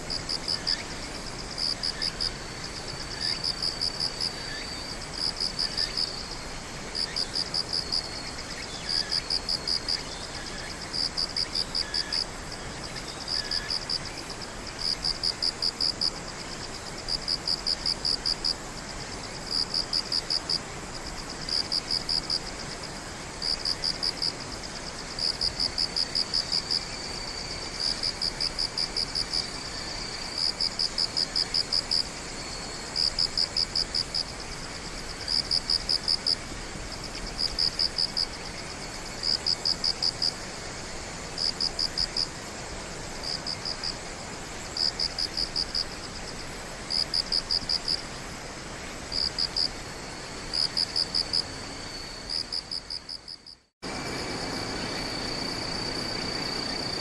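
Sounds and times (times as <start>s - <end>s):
steady high insect trill: 0.0s - 57.0s
pulsed insect chirp: 0.1s - 57.0s.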